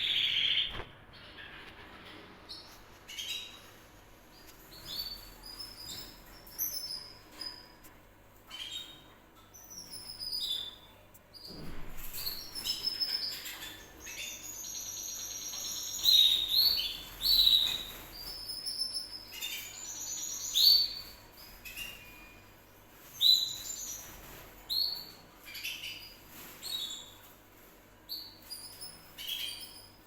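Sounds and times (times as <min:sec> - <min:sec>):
canary singing: 0:00.0 - 0:01.4, 0:02.5 - 0:11.0, 0:12.1 - 0:27.3, 0:28.0 - 0:30.0.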